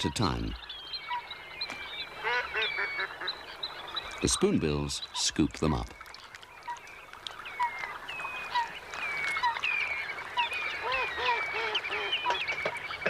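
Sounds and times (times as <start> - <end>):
high bird chatter: 0.0 - 13.0
lower arching bird calls: 0.0 - 13.0.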